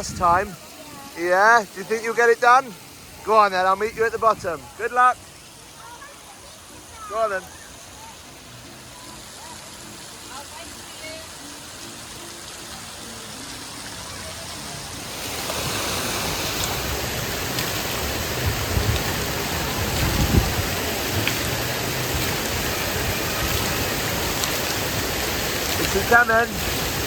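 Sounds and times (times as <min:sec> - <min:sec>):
splashing running water: 0:00.0 - 0:27.0.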